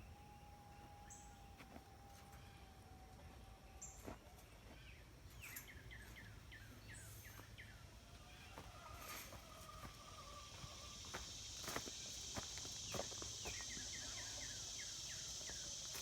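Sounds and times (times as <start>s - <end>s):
bird chirping: 0.0s - 2.7s, 3.7s - 8.9s, 10.4s - 16.0s
faint steady whine: 0.0s - 16.0s.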